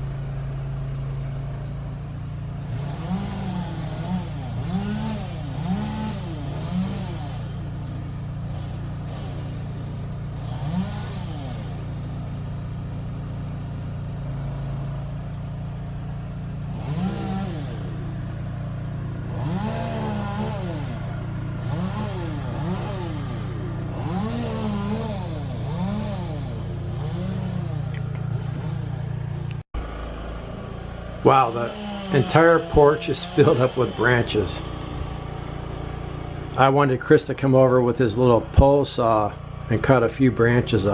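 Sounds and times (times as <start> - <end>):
gas engine revving: 0.0 - 40.9
low engine drone: 0.0 - 40.9.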